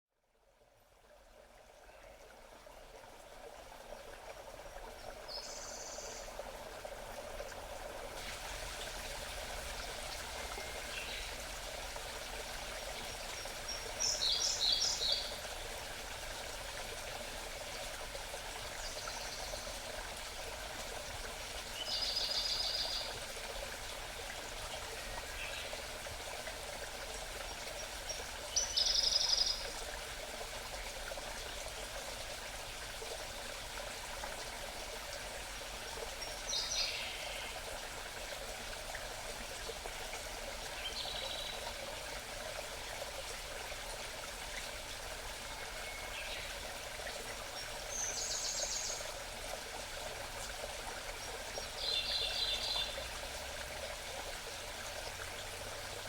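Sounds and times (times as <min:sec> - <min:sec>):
forest stream babbling: 0:00.3 - 0:56.0.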